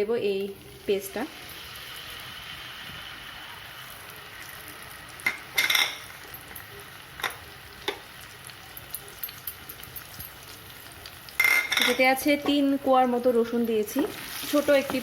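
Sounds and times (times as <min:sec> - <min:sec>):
paste sizzling in hot oil: 0:00.3 - 0:15.0.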